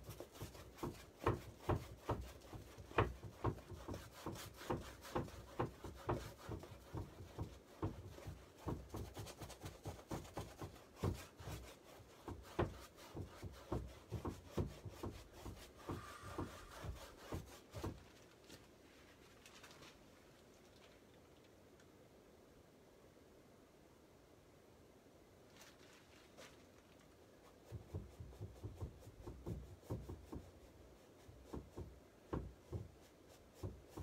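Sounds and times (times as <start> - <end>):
paint scrubbed onto canvas: 0.0 - 20.0, 25.5 - 34.0.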